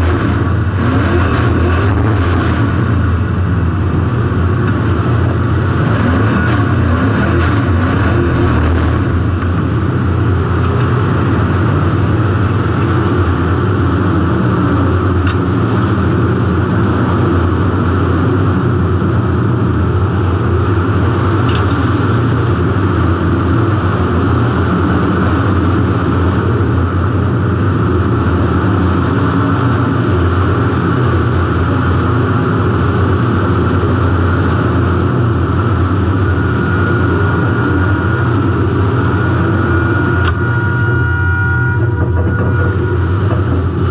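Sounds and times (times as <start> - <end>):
car engine running loud: 0.0 - 43.9.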